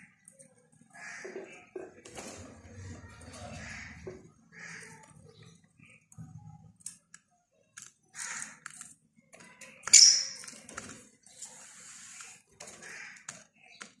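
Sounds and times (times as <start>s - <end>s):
small birds chirping: 2.7s - 14.0s.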